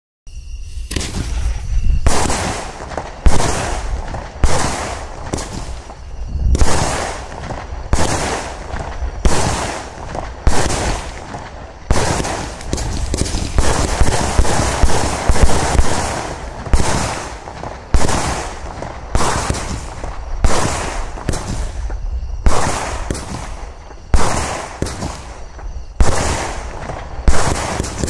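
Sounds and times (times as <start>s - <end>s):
fireworks firing rapidly: 0.9s - 28.0s
loud firework bangs: 0.9s - 28.0s.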